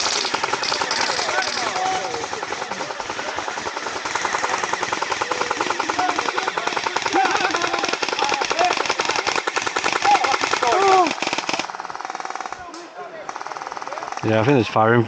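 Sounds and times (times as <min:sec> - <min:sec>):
airsoft rifle firing full-auto: 0:00.0 - 0:14.3.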